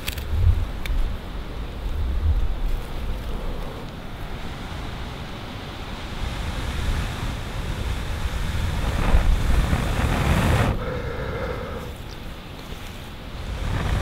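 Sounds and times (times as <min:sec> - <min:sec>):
wind buffeting microphone: 0:00.0 - 0:12.4, 0:13.1 - 0:14.0.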